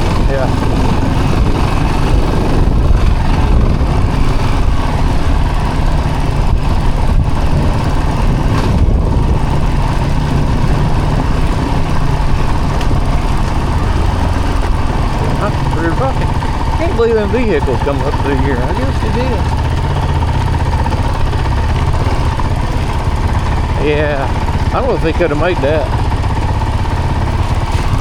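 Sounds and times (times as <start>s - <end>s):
off-road vehicle engine rumbling: 0.0s - 28.0s
ride noise on rough trail: 0.0s - 28.0s.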